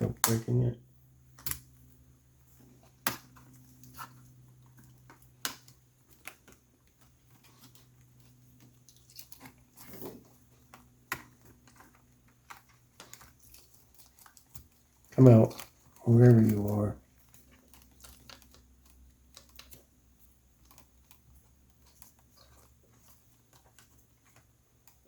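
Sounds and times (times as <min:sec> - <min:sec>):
small laptop parts clicking: 0:01.3 - 0:02.0, 0:02.8 - 0:25.0.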